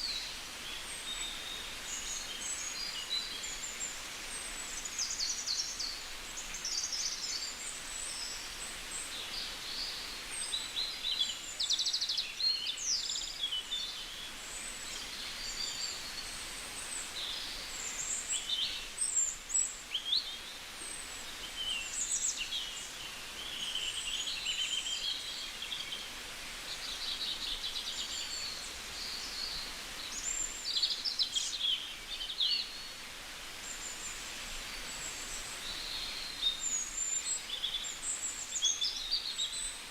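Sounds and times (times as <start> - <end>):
faint outdoor hiss: 0.0 - 39.9
songbirds singing and calling: 0.0 - 39.9.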